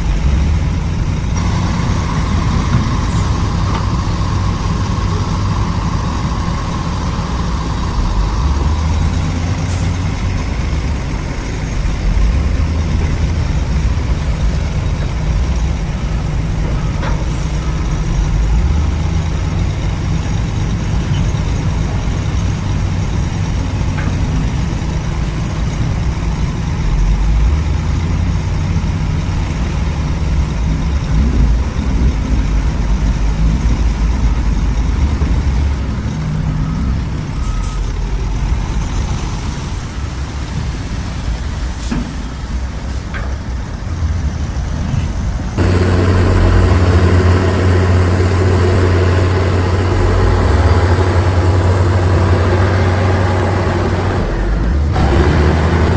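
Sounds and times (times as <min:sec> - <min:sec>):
diesel machinery rumbling: 0:00.0 - 0:55.9.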